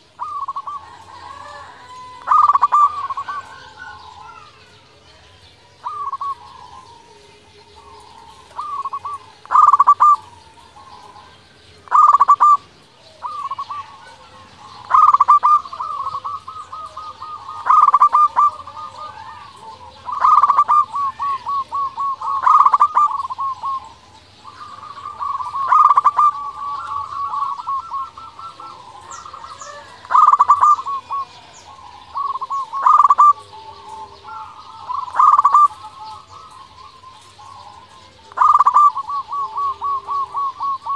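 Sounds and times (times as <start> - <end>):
dove cooing with trill: 0.0 - 40.9.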